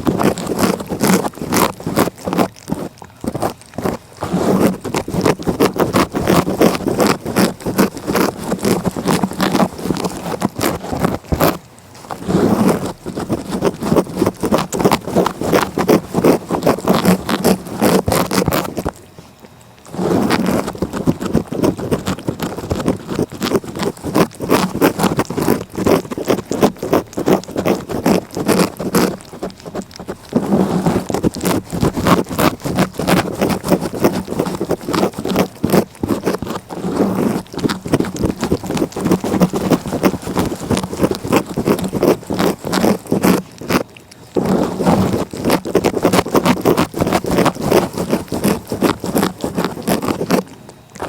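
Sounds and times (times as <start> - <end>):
cat licking: 0.0 - 51.0.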